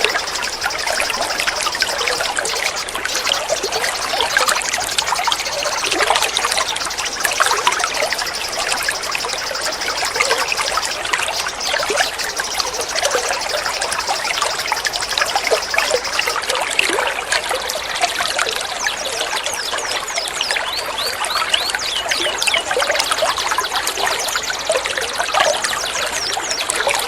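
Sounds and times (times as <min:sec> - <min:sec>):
songbirds singing: 0:00.0 - 0:16.5, 0:18.6 - 0:27.0
bird's high rapid trill: 0:00.0 - 0:16.6, 0:18.8 - 0:27.0.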